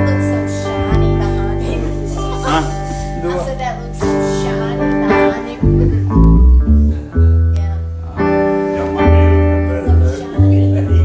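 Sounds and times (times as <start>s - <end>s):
deep held bass notes: 0.0s - 11.0s
electric guitar notes and chords: 0.0s - 11.0s.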